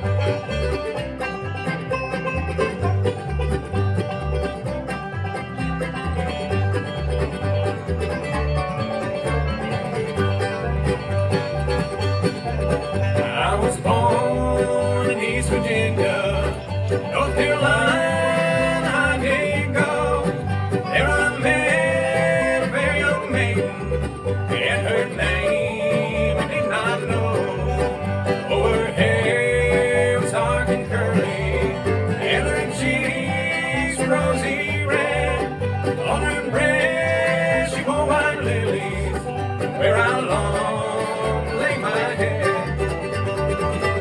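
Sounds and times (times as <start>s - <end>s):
banjo: 0.0s - 44.0s
bluegrass band playing: 0.0s - 44.0s
plucked upright bass: 0.0s - 44.0s.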